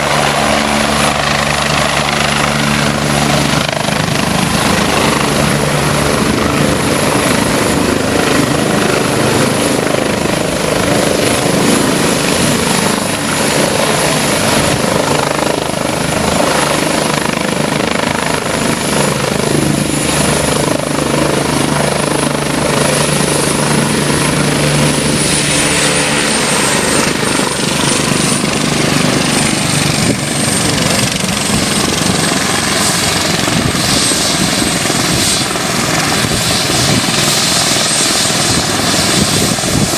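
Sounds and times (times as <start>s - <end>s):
helicopter rotor chop: 0.0s - 39.9s
high turbine whine: 0.0s - 39.9s.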